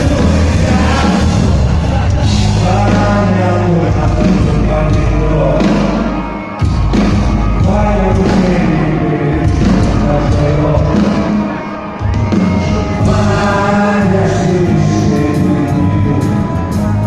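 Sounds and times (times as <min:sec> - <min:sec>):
live band with heavy bass: 0:00.0 - 0:17.0.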